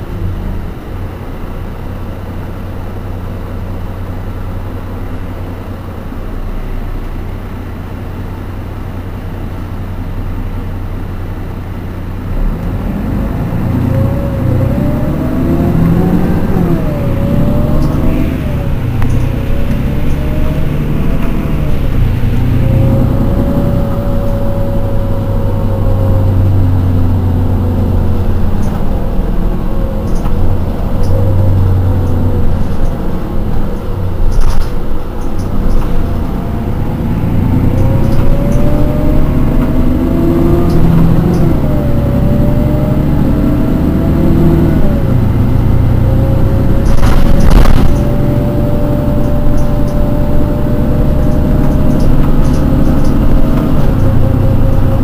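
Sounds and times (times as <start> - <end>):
bus engine drone: 0.0 - 55.0
engine whine: 0.0 - 55.0.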